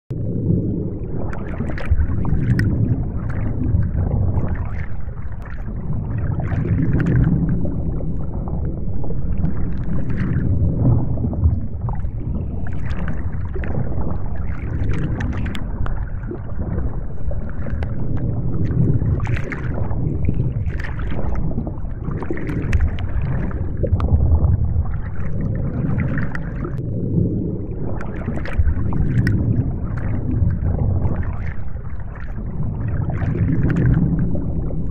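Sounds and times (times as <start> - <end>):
low rush of water: 0.1 - 34.9.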